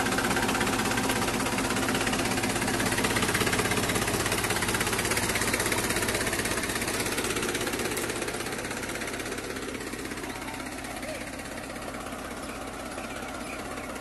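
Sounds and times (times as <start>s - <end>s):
diesel tractor engine idling: 0.0s - 14.0s.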